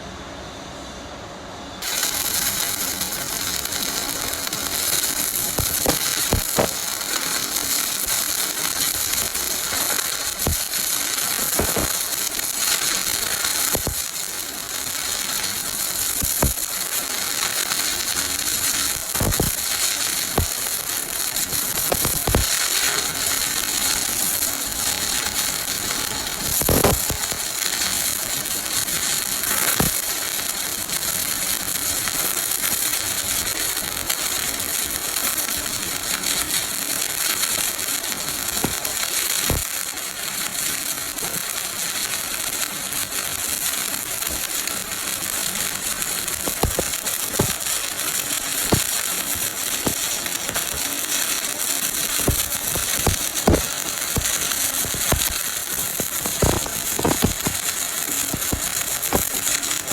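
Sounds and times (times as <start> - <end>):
sharp welding pops: 1.8 - 59.9
welding arc crackling and hissing: 1.8 - 59.9.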